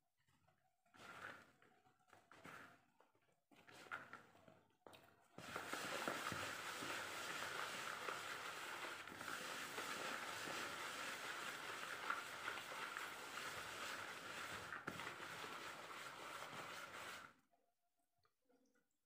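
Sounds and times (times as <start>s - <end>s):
hand working damp flour in basin: 0.2s - 17.4s.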